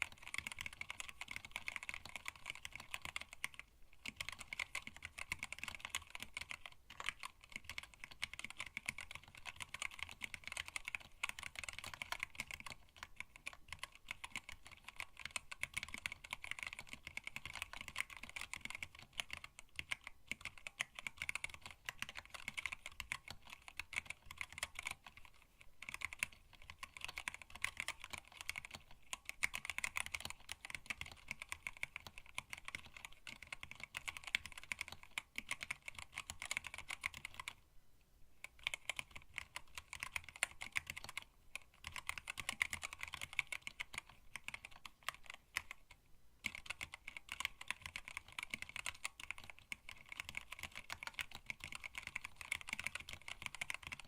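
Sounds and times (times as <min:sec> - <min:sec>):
fast typing on mechanical keyboard: 0:00.0 - 0:37.6, 0:38.4 - 0:54.0.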